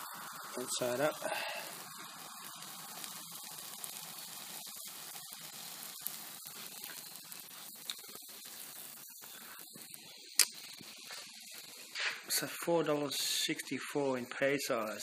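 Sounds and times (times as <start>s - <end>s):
faint crackles: 0.0s - 14.8s
fish sizzling on a hotplate: 0.0s - 15.0s.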